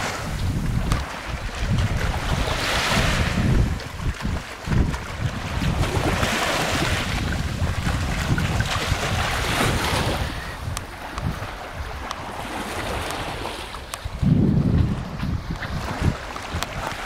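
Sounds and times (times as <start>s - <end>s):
small waves lapping on shore: 0.0s - 17.0s
wind rumbling on microphone: 0.0s - 17.0s.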